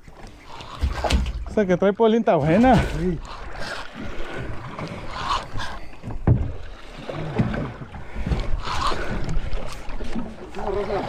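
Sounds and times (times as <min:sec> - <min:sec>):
boat knocking: 0:00.0 - 0:11.0
boat low rumble: 0:00.0 - 0:11.0.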